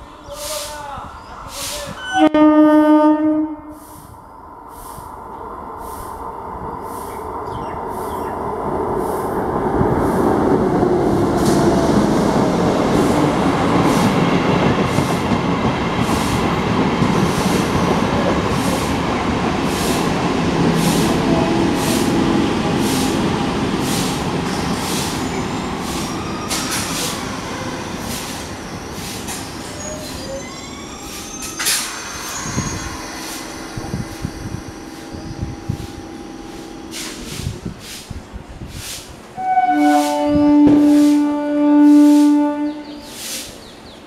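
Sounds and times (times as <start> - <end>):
train wheels rumbling on rails: 3.7 - 44.0.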